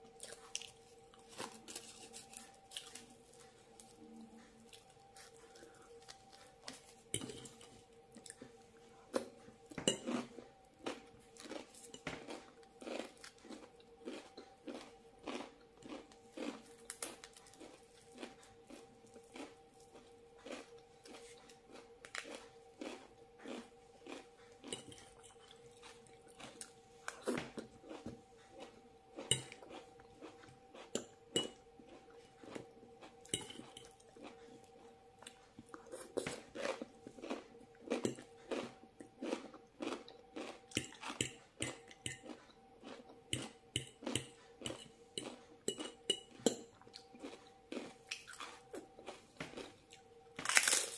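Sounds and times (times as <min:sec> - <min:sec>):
crunchy chewing: 0:00.0 - 0:50.9.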